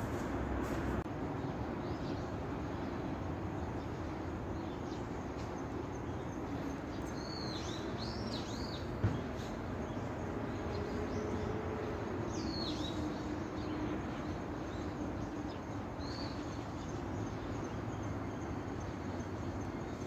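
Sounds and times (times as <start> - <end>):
distant city traffic hum: 0.0 - 20.0.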